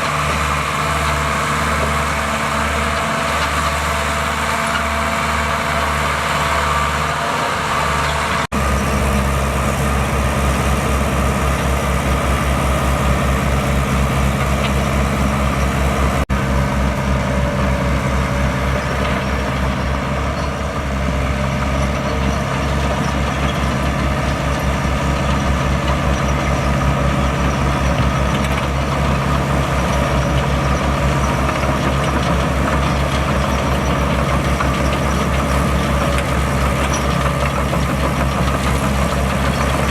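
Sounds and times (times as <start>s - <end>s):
diesel engine pulsing: 0.0s - 39.9s.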